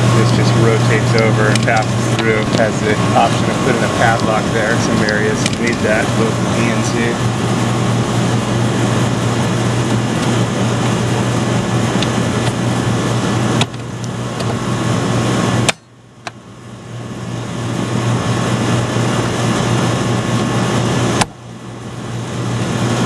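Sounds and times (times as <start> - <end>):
compressor hum: 0.0 - 23.0
outdoor fan rushing: 0.0 - 23.0.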